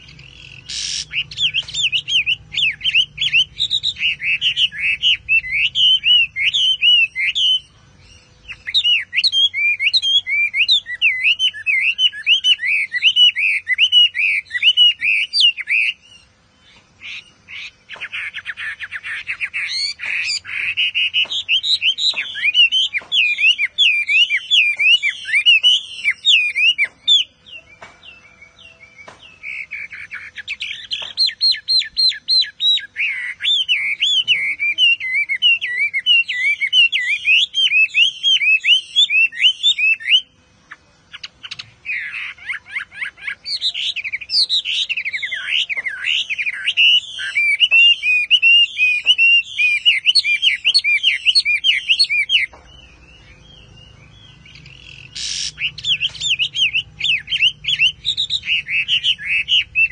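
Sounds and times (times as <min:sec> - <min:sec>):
bird singing whistles and trills: 0:00.0 - 0:59.9.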